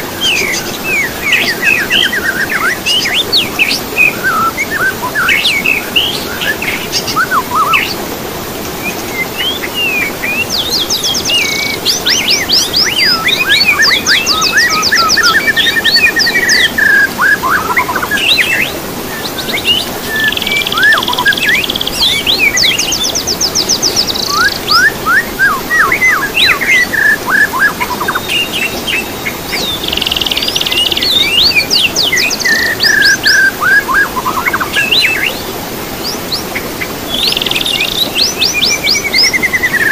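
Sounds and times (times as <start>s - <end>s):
songbird whistles and trills: 0.2s - 8.0s, 8.8s - 35.4s, 36.0s - 39.9s.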